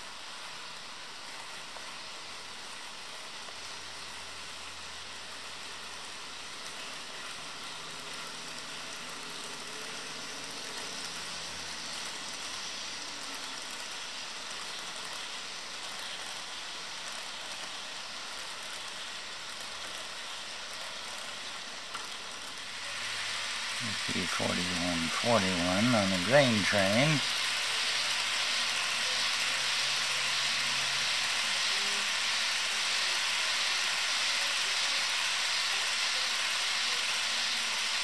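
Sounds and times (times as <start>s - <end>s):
model train wheels rolling: 0.0s - 38.0s.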